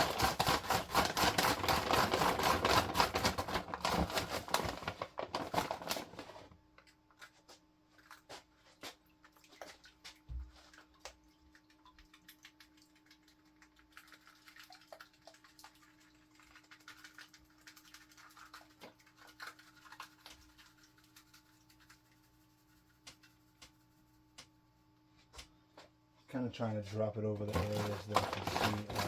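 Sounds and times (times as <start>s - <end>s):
low steady hum: 3.1s - 29.0s.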